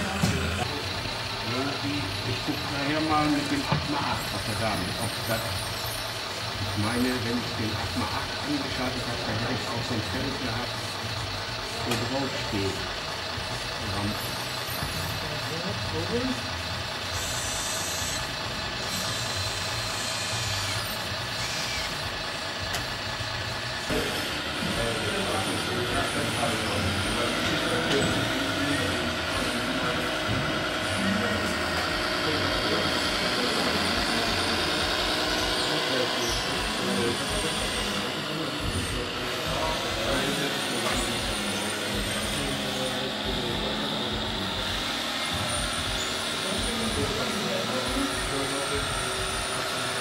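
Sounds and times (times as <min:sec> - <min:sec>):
hydraulic pump whirring: 0:00.0 - 0:50.0
model vehicles running: 0:00.0 - 0:50.0
toy truck motor drone: 0:00.0 - 0:50.0
voices murmuring: 0:00.0 - 0:50.0.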